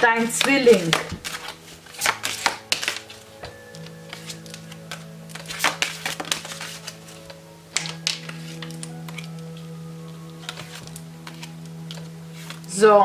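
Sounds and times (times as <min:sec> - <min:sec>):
cards being shuffled: 0:00.0 - 0:12.8
soft background music: 0:00.0 - 0:13.0.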